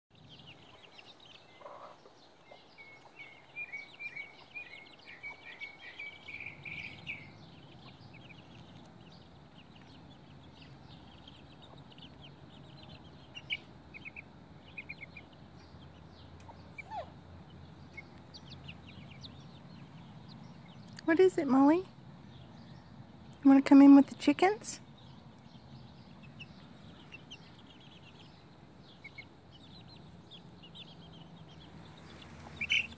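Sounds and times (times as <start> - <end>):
faint low rumble: 0.1 - 24.2, 24.8 - 32.9
chicks chirping: 0.1 - 32.9.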